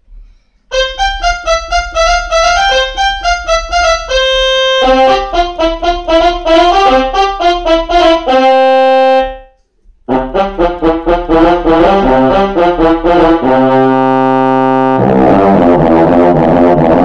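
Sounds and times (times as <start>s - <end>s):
keyboard melody: 0.7s - 17.0s.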